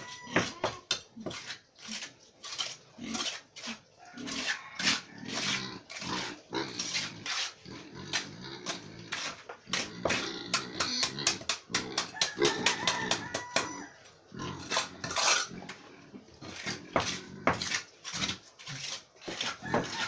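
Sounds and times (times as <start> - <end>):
pigs grunting and squealing: 0.0 - 20.0.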